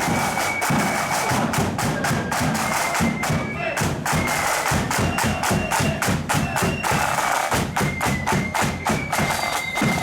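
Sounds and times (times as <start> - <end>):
high flute notes: 0.0 - 10.0
snare and bass drums beating: 0.0 - 10.0.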